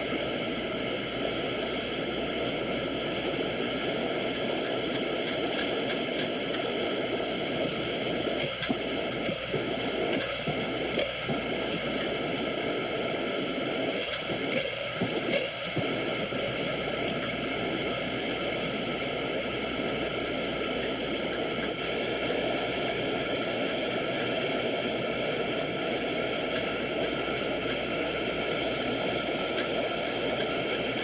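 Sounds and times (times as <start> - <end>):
steady hiss and machine hum: 0.0 - 31.0.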